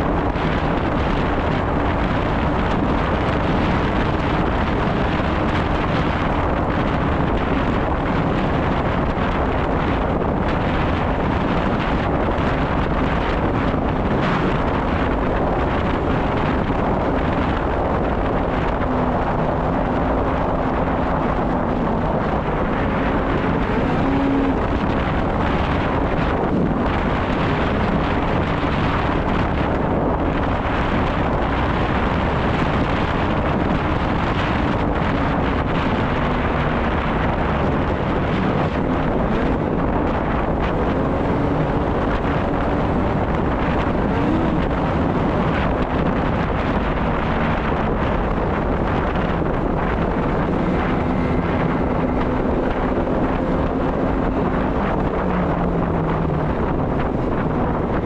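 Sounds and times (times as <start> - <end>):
snowmobile engine running: 0.0 - 58.0
wind noise on microphone: 0.0 - 58.0.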